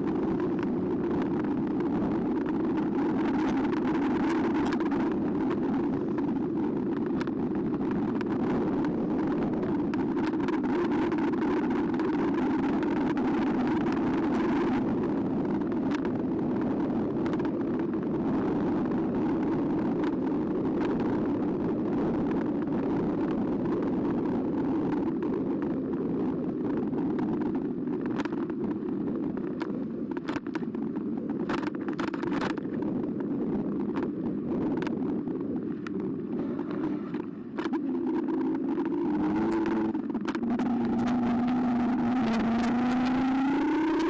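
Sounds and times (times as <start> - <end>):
sharp clicks and rattles: 0.0 - 17.9, 26.6 - 44.0
wind noise: 0.0 - 44.0.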